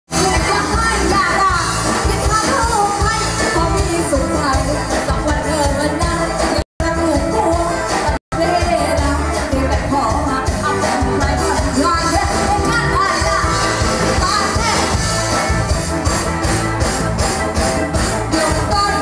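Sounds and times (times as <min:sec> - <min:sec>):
woman singing: 0:00.1 - 0:15.0, 0:18.3 - 0:19.0
live band music: 0:00.1 - 0:19.0.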